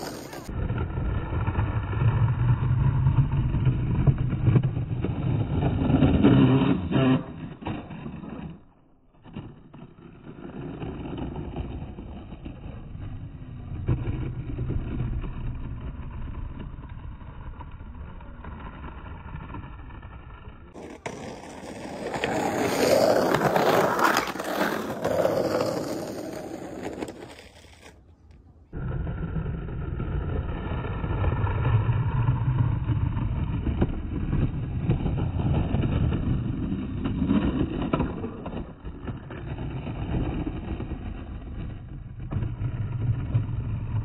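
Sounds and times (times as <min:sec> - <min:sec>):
skateboard wheels scraping concrete: 0:00.0 - 0:44.0.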